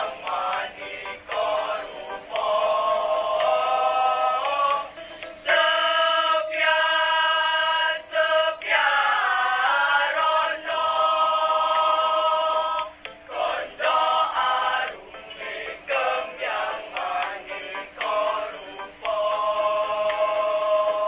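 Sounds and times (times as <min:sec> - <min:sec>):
choir singing in parts: 0:00.0 - 0:21.0.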